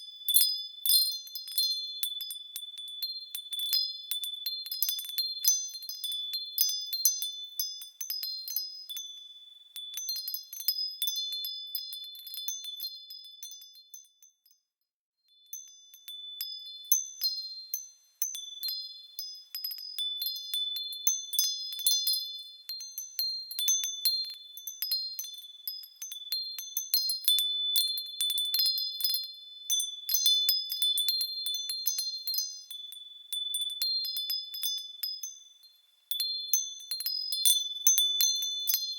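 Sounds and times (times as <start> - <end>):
wind chimes ringing: 0.0 - 9.2, 15.5 - 38.9.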